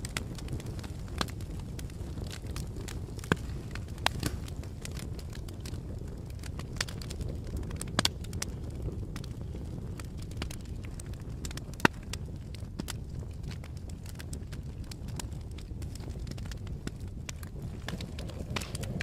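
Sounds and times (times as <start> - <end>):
campfire burning rumble: 0.0 - 19.0
wood crackling and popping: 0.0 - 19.0.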